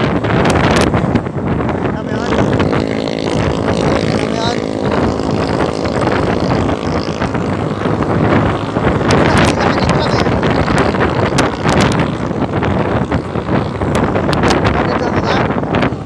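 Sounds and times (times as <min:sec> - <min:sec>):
road noise: 0:00.0 - 0:16.0
scooter engine: 0:00.0 - 0:16.0
wind buffeting crackles: 0:00.0 - 0:16.0
wind rushing over microphone: 0:00.0 - 0:16.0.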